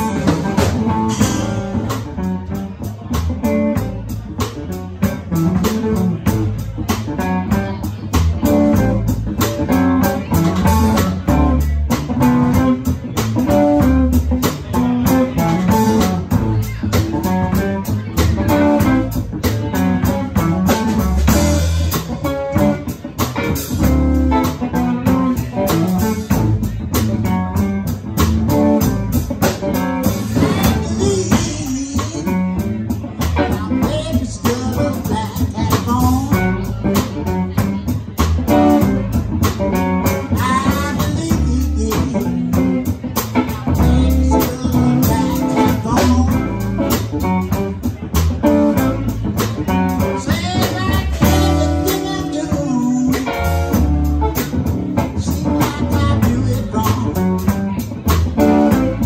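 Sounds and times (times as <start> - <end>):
drum kit steady beat: 0.0 - 59.0
electric bass: 0.0 - 59.0
hollow-body electric guitar: 0.0 - 59.0.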